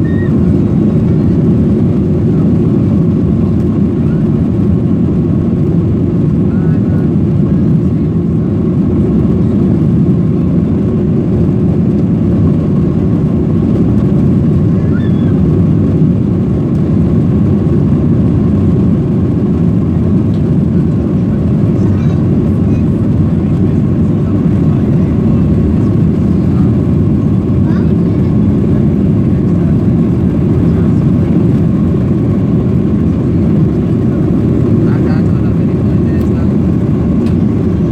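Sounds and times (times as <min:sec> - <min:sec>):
faint jet engine whine: 0:00.0 - 0:37.9
jet engine cabin rumble: 0:00.0 - 0:37.9.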